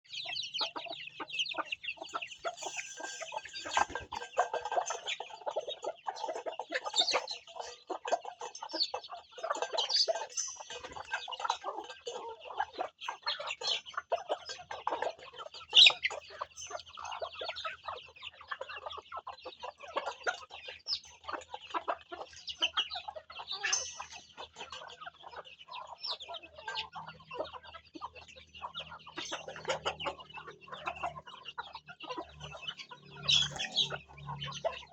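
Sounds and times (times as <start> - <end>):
chickens clucking: 0.0 - 34.9
chicks peeping: 0.0 - 34.9.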